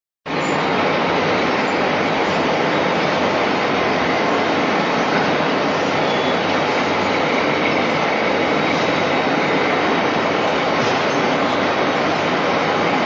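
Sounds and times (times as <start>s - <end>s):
machinery running: 0.3s - 13.0s.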